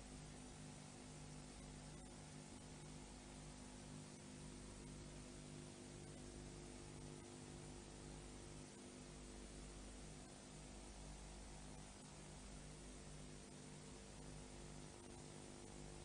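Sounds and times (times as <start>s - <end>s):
pulsing low electrical hum: 0.0s - 16.0s
steady hiss: 0.0s - 16.0s.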